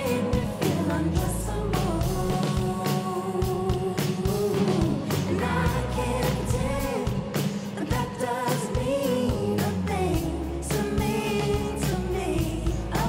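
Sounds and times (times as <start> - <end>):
backing vocalists: 0.0 - 13.0
live band with drums: 0.0 - 13.0
woman singing lead: 0.0 - 13.0.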